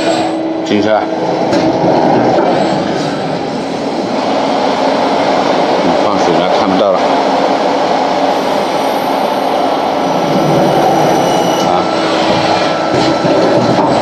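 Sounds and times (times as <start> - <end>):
high-pitched whine: 0.0 - 14.0
lathe running: 0.0 - 14.0.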